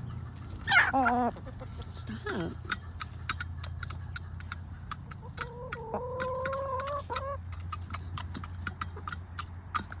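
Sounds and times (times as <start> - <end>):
chickens pecking: 0.0 - 10.0.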